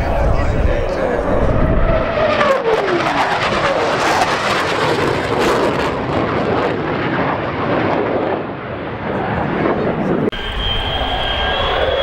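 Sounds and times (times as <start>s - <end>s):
jet roar with crackling: 0.0s - 12.0s.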